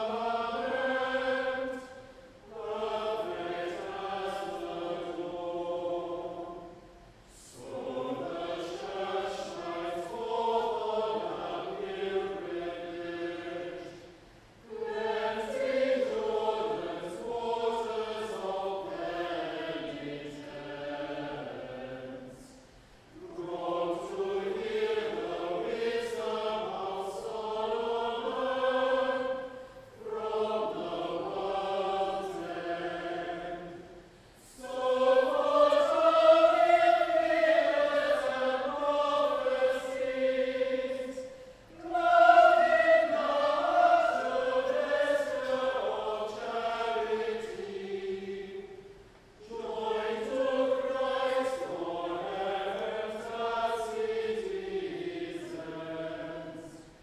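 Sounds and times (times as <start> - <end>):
choir singing church music: 0.0 - 57.0.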